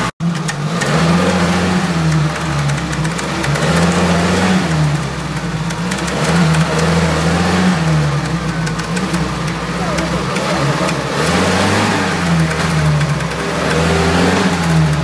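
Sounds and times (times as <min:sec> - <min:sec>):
jeep engine revving: 0:00.0 - 0:15.0.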